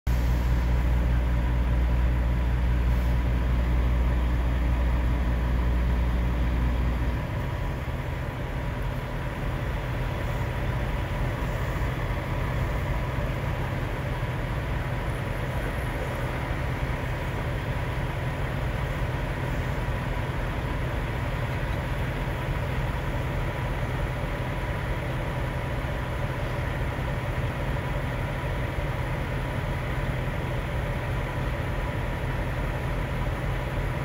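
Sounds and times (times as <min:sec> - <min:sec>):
diesel truck engines idling: 0:00.1 - 0:34.0.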